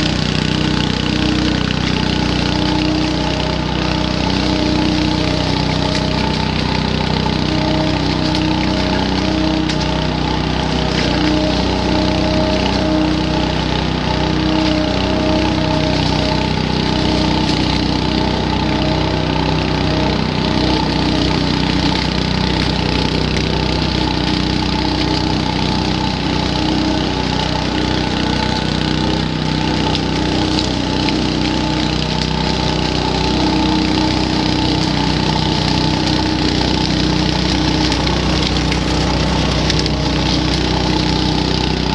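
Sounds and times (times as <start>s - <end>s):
petrol leaf vacuum running: 0.0s - 41.9s.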